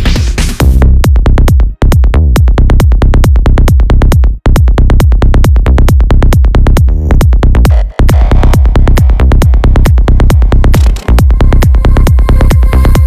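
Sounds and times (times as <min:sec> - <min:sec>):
electronic dance music: 0:00.0 - 0:13.0.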